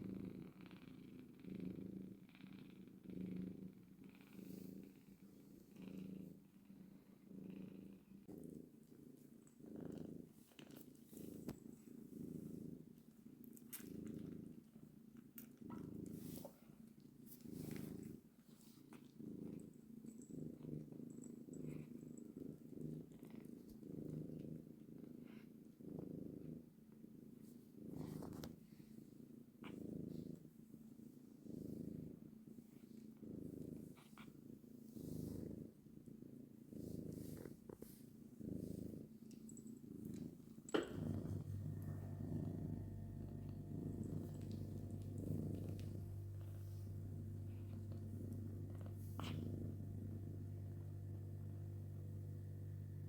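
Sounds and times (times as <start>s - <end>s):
cat purring: 0.0s - 53.0s.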